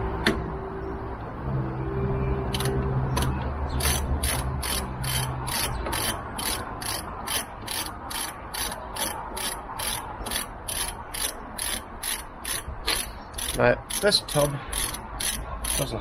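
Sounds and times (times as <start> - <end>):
ratchet clicking: 2.5 - 16.0.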